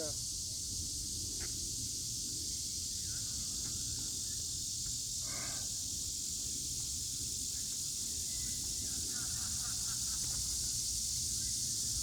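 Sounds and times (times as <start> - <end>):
cicada chorus drone: 0.0 - 12.0.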